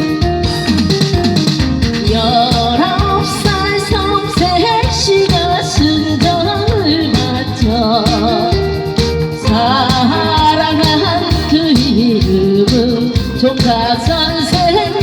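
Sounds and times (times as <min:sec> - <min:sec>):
amplified backing track: 0:00.0 - 0:15.0
woman singing with vibrato: 0:02.0 - 0:15.0.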